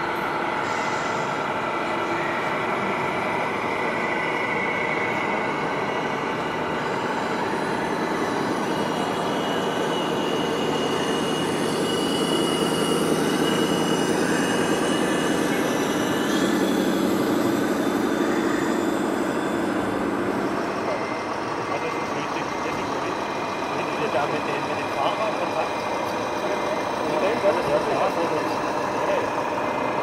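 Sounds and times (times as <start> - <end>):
electric model trucks whining: 0.0 - 30.0.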